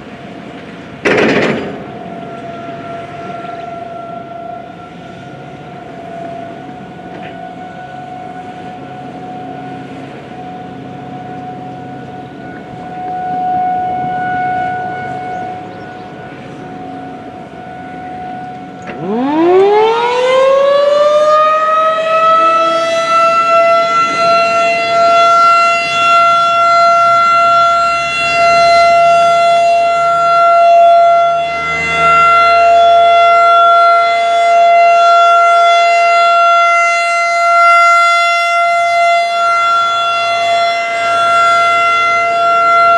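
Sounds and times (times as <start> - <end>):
distant warning siren: 0.0 - 42.9
rotating siren winding up: 1.8 - 42.9.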